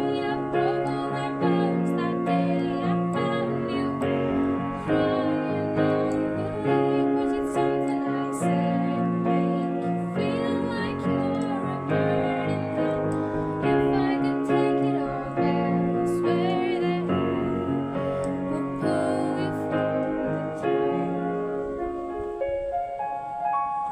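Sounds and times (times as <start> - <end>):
slow piano melody: 0.0 - 23.9.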